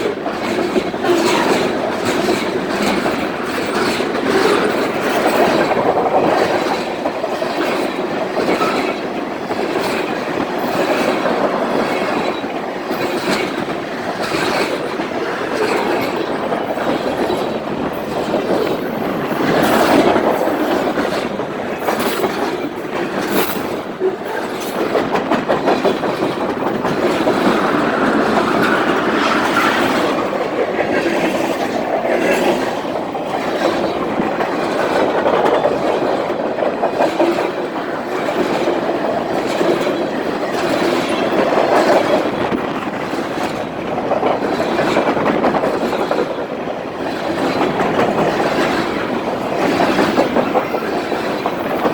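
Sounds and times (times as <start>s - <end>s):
train rumbling by: 0.0s - 51.9s
wheels clacking over rail joints: 0.0s - 51.9s.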